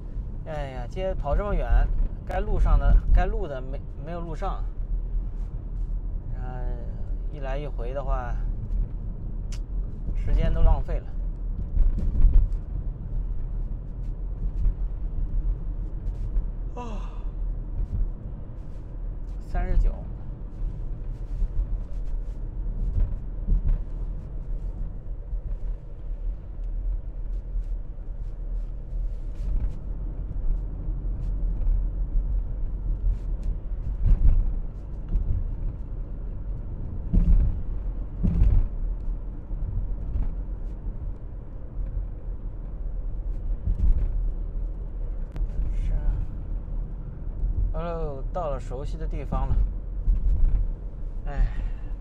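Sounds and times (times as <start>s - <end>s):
car road noise rumble: 0.0s - 52.0s.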